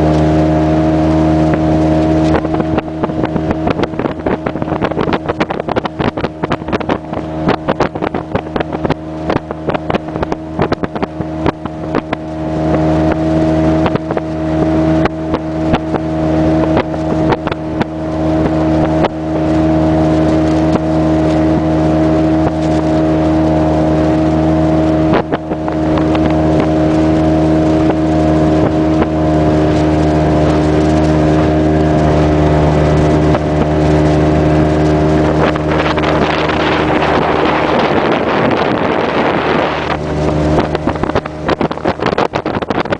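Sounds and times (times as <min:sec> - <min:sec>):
hull knocking on water: 0:00.0 - 0:42.9
motorboat engine running: 0:00.0 - 0:42.9.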